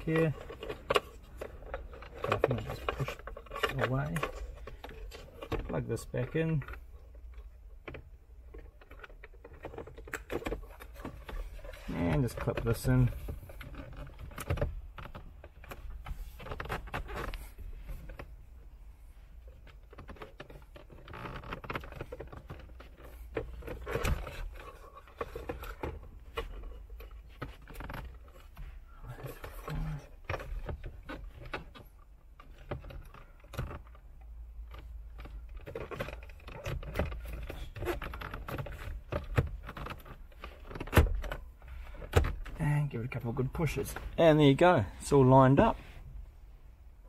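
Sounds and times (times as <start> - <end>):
plastic trim clicking and scraping: 0.0 - 18.4, 19.4 - 44.3.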